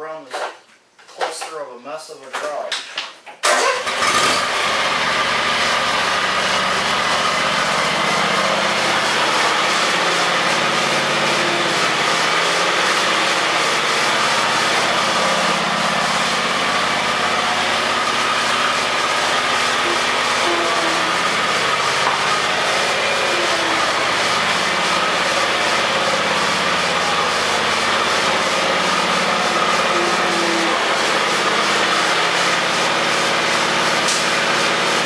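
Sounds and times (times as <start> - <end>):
riding mower engine running: 3.4 - 35.0.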